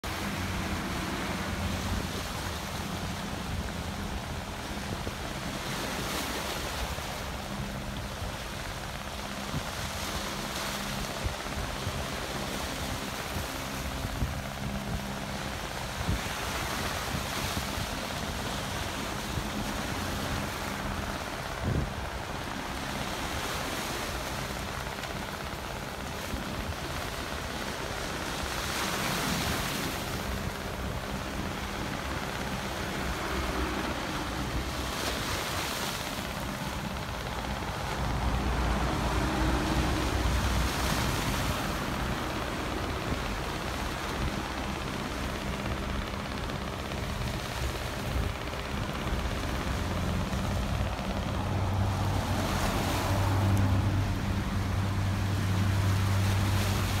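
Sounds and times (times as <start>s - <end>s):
waves breaking on rocky shore: 0.0s - 57.0s.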